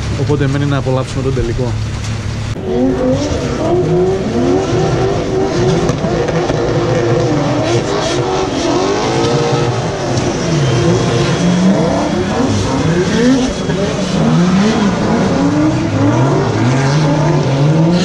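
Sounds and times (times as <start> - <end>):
car engines revving hard: 0.0 - 18.0.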